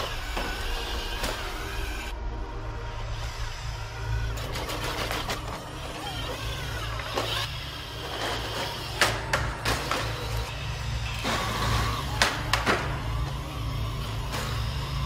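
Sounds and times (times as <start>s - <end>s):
robot mechanical hum and motor whine: 0.0s - 15.0s.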